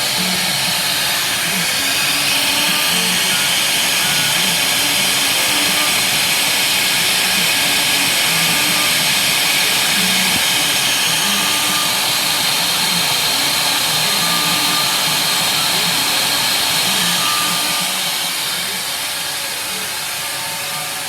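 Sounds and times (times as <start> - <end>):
cnc machine rushing noise: 0.0 - 21.0.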